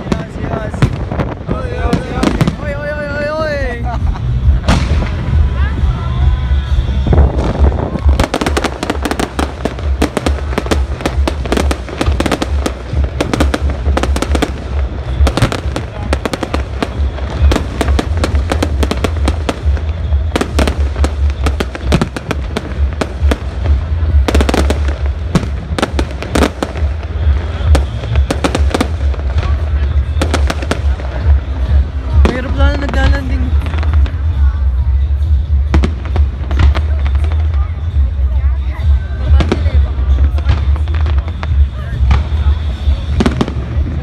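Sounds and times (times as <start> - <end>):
fireworks bangs and crackles: 0.0 - 44.0
low rumble: 0.0 - 44.0.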